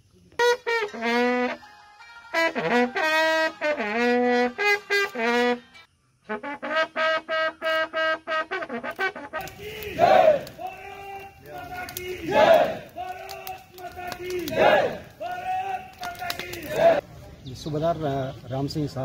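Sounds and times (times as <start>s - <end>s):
bugle call: 0.4s - 17.0s.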